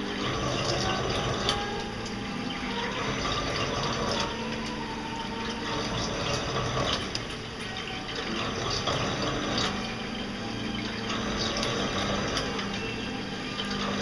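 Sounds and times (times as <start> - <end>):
coolant splashing: 0.0 - 14.0
low machine hum: 0.0 - 14.0
machine drilling metal: 0.0 - 14.0.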